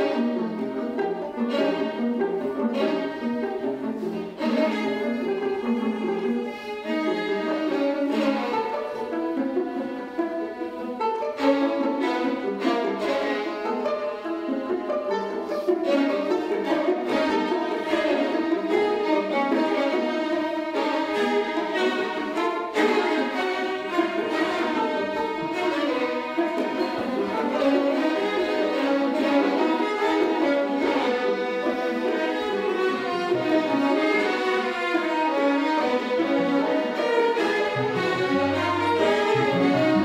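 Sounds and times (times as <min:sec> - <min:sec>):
string orchestra playing: 0:00.0 - 0:40.0.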